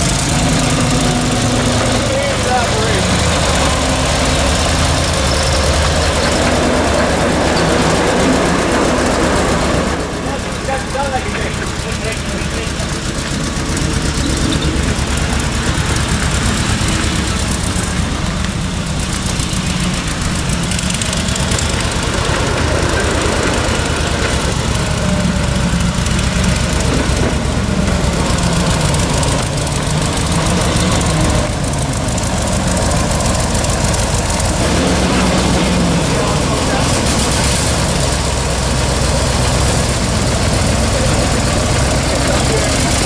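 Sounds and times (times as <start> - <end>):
miniature train engine running: 0.0 - 43.0.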